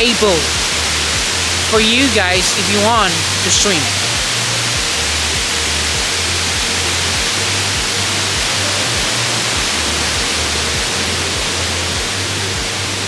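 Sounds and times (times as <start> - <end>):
music with low bass notes: 0.0 - 13.0
waterfall rushing: 0.0 - 13.0.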